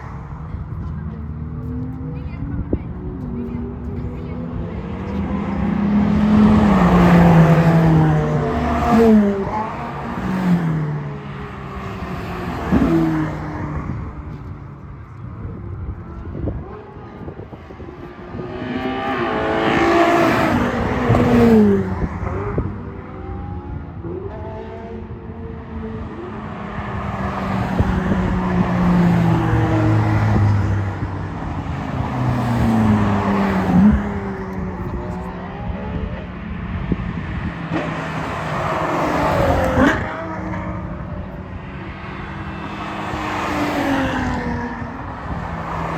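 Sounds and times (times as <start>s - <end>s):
sports cars driving past: 0.0s - 45.9s.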